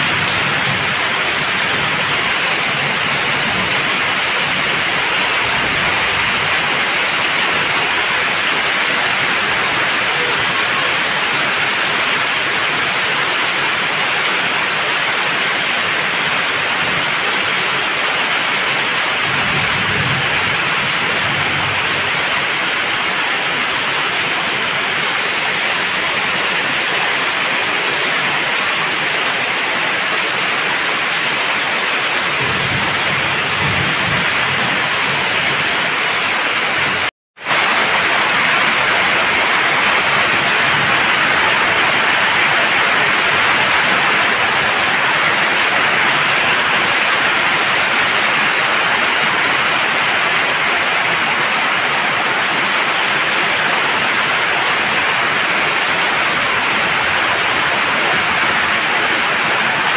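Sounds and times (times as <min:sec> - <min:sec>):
heavy rain on wet pavement: 0:00.0 - 0:59.9.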